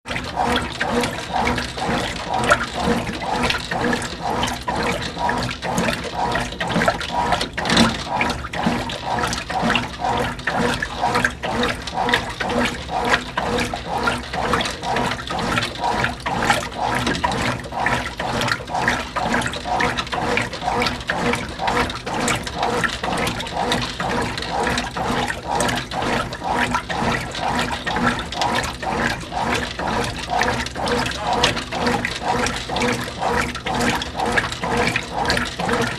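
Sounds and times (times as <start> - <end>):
washing machine sloshing water: 0.0 - 35.9.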